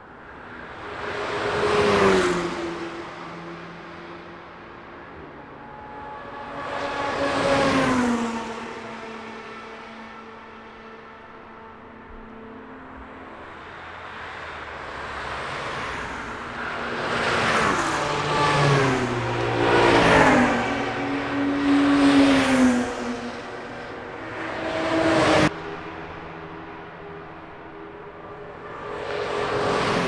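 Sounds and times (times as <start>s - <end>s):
cars passing by: 0.0s - 30.0s.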